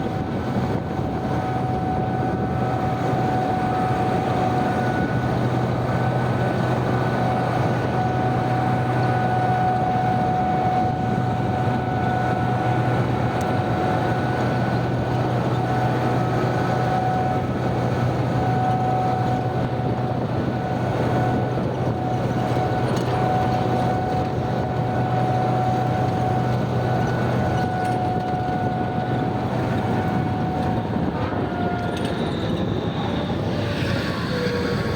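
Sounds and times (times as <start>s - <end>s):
diesel machinery engine hum: 0.0s - 34.9s.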